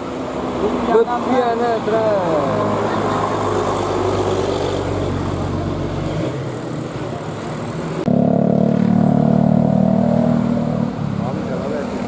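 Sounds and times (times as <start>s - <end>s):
bus engine: 0.0s - 12.0s
street noise: 0.0s - 12.0s.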